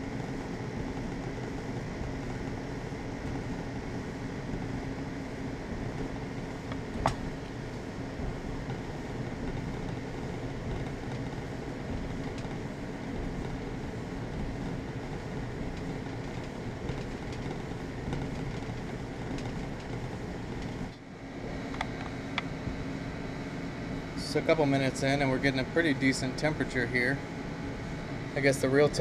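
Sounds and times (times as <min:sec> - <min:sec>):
dryer running with mechanical hum: 0:00.0 - 0:29.0.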